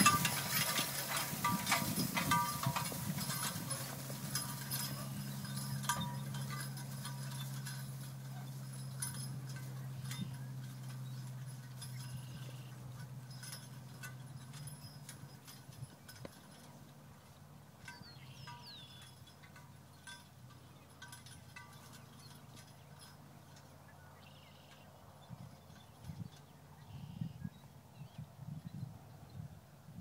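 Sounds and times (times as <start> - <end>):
horse hoofbeats: 0.0 - 26.6
harness and plow metal clinking: 0.0 - 28.3.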